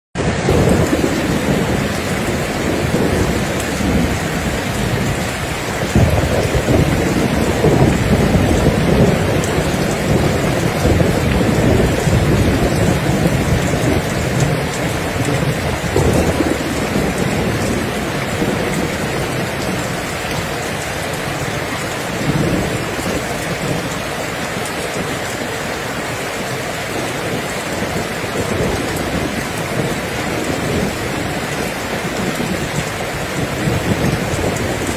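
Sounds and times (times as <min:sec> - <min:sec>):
heavy rain: 0:00.2 - 0:34.9
thunder rumbles: 0:00.2 - 0:34.9.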